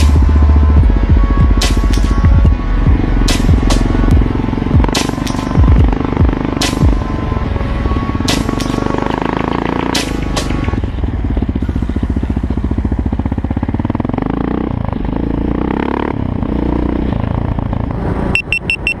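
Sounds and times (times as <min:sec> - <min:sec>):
quad bike engine running: 0:00.0 - 0:19.0.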